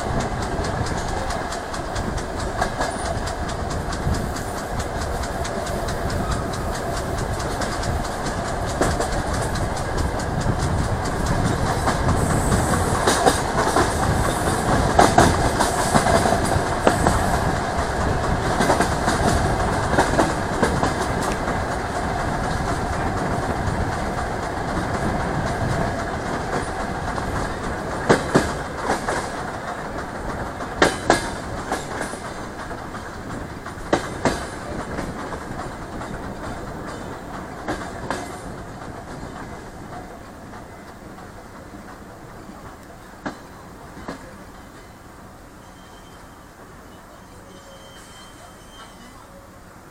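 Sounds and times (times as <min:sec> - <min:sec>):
wheels clacking over rail joints: 0:00.0 - 0:45.0
wheels rumbling on rail: 0:00.0 - 0:49.9.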